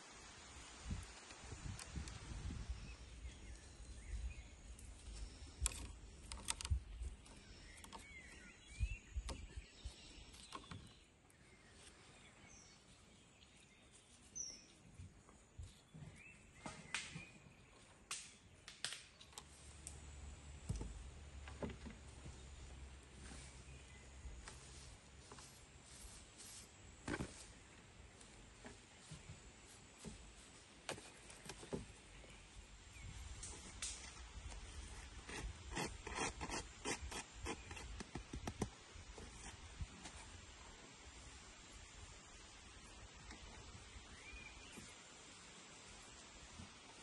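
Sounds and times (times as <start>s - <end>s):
birds chirping: 1.7s - 39.5s, 41.8s - 47.0s.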